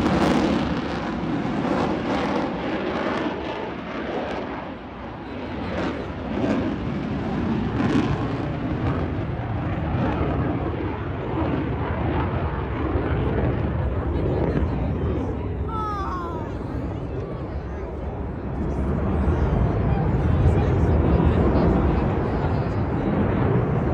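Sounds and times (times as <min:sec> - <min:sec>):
jet engine roar: 0:00.0 - 0:23.9.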